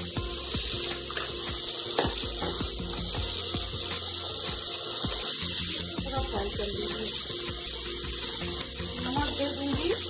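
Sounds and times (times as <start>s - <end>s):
onion frying in hot oil: 0.0s - 10.0s.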